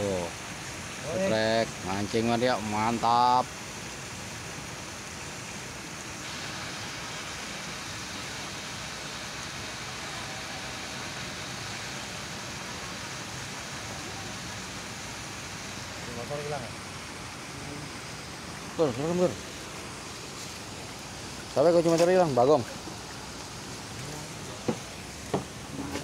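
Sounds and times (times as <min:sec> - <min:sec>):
steady hissing noise: 0:00.0 - 0:26.0.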